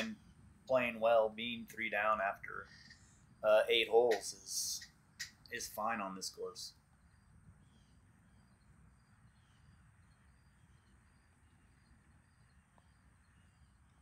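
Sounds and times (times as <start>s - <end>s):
high chirping insects or birds: 0.0s - 14.0s.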